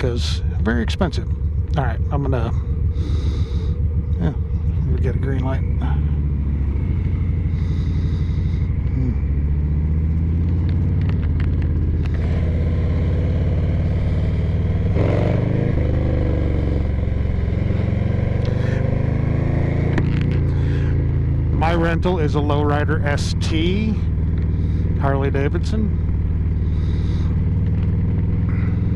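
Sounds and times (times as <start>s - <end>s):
motorcycle engine pulling away: 0.4s - 28.9s.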